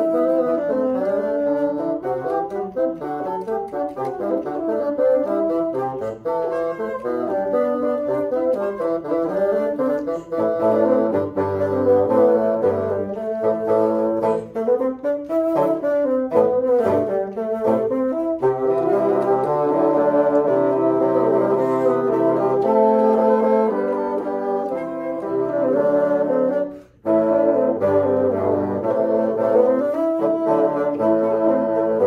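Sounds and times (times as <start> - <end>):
bassoons playing in harmony: 0.0 - 32.0.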